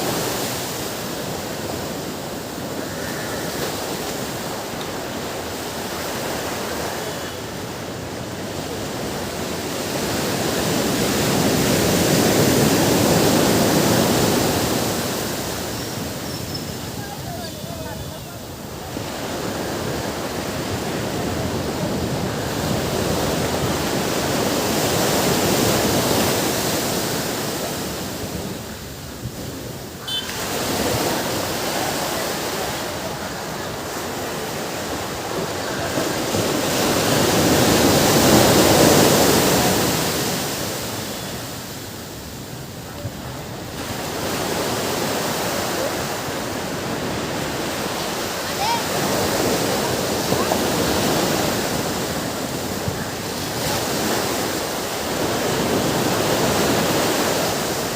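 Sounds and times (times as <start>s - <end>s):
waves breaking on beach: 0.0s - 57.9s.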